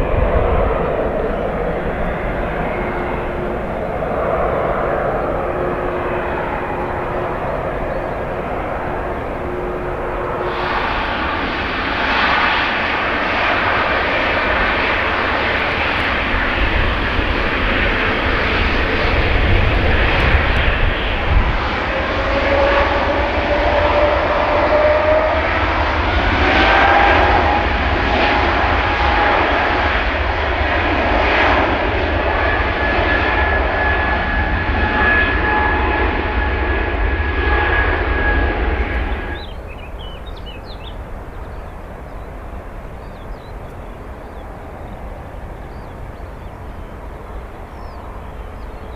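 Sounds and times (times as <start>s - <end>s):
jet engine whine rising: 0.0s - 48.9s
jet engines roaring: 0.0s - 48.9s.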